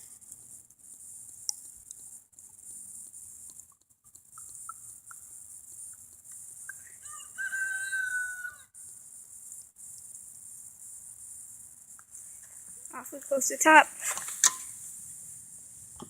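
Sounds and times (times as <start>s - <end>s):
faint high hiss: 0.0s - 16.0s.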